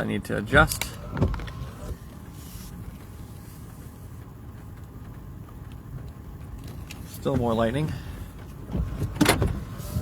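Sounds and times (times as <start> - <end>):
vehicle idling rumble: 0.0 - 10.0.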